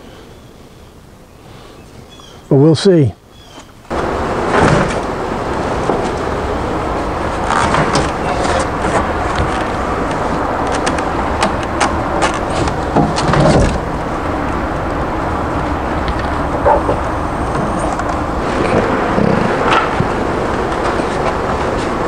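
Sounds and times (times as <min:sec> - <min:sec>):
loud rushing noise: 0:03.9 - 0:22.0.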